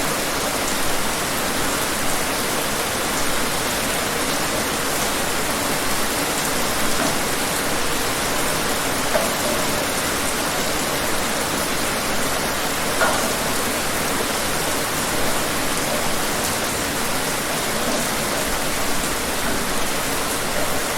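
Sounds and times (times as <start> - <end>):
louder raindrops: 0.0 - 20.9
steady rain hissing: 0.0 - 20.9.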